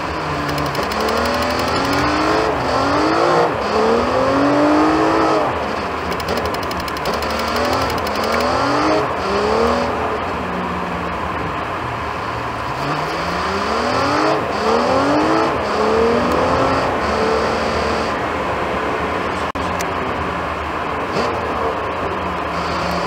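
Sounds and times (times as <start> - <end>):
car engine revving: 0.0 - 23.0
road noise: 0.0 - 23.0.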